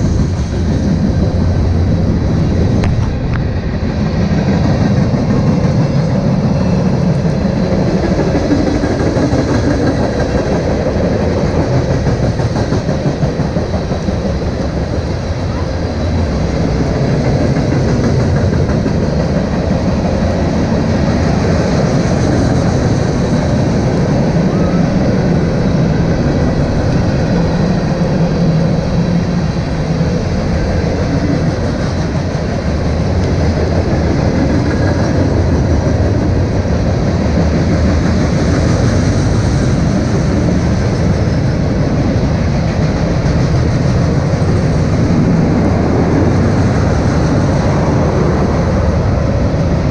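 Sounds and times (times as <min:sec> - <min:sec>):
freight train rumbling and rattling: 0:00.0 - 0:49.9.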